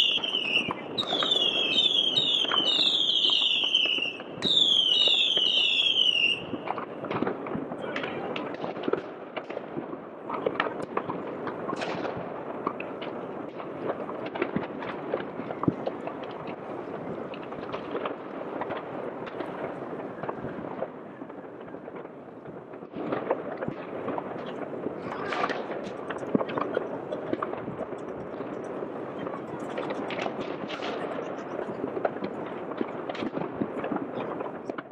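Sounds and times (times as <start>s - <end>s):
distant fireworks and firecrackers: 0.0s - 34.9s.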